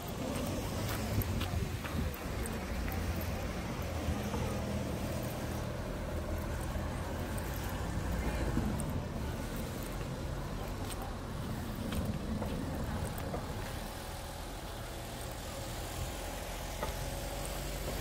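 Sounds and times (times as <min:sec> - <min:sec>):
outdoor street ambience: 0:00.0 - 0:18.0
vehicle engine low rumble: 0:00.0 - 0:18.0.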